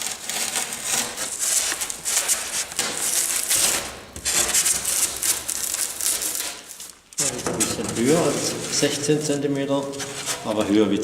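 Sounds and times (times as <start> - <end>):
polystyrene foam scraping: 0.0 - 11.0.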